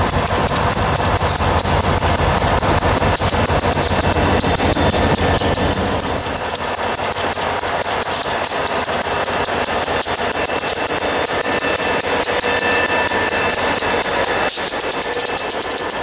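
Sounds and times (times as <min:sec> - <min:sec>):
diesel locomotive engine: 0:00.0 - 0:16.0
rail noise: 0:00.0 - 0:16.0
wheel clicks: 0:00.0 - 0:16.0.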